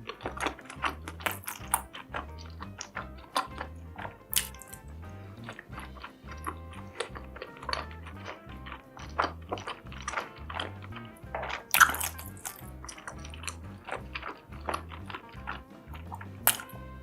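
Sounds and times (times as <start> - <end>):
background music with low beat: 0.0 - 17.0
food crunch: 0.0 - 17.0
wet chewing: 0.0 - 17.0.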